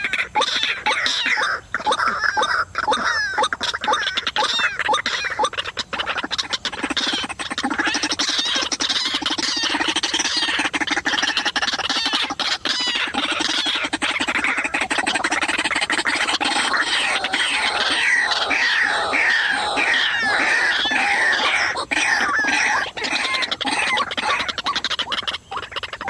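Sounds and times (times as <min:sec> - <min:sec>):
bird croaking squawks: 0:00.0 - 0:26.0.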